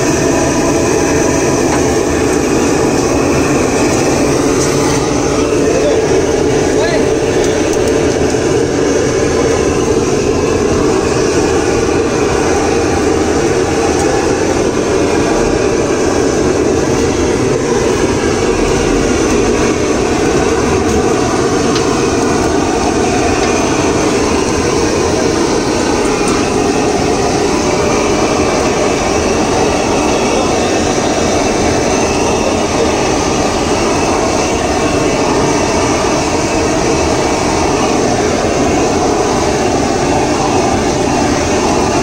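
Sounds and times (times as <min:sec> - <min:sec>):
blowtorch flame rushing: 0:00.0 - 0:42.0.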